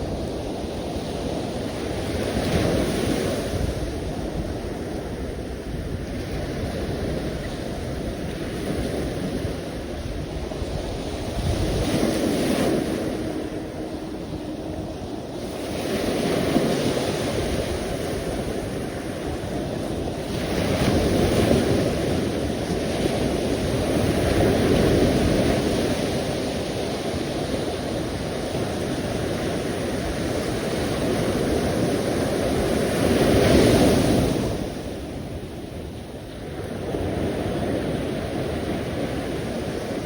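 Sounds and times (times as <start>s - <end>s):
sea waves breaking: 0.0s - 40.0s.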